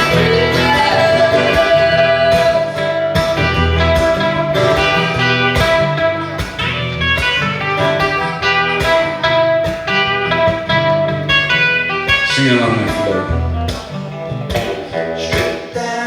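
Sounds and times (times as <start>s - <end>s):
live band guitars playing: 0.0s - 16.0s.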